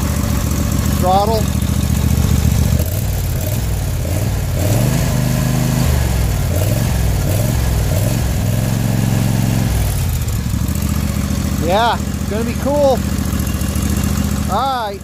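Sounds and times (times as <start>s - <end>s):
small gas engine revving: 0.0s - 15.0s.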